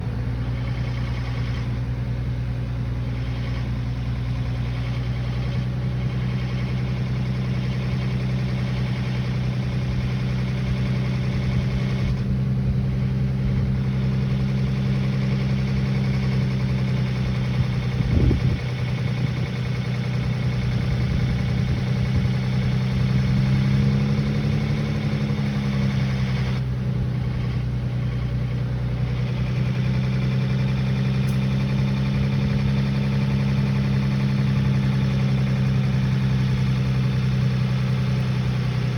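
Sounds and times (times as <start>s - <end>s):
car engine running with ticking: 0.0s - 38.9s.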